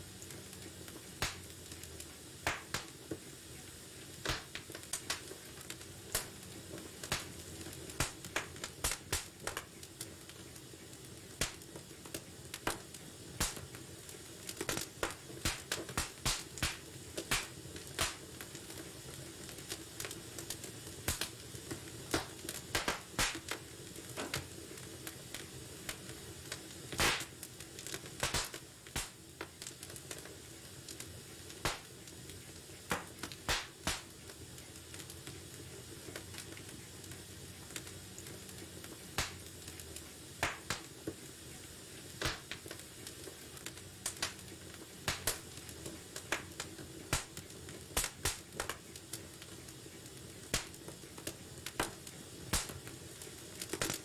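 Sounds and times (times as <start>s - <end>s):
low hiss of burning: 0.0s - 54.0s
wood fire crackling and popping: 0.0s - 54.0s.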